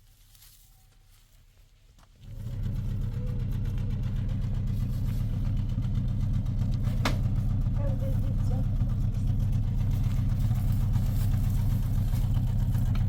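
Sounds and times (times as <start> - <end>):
vehicle engine idling: 2.1 - 13.0.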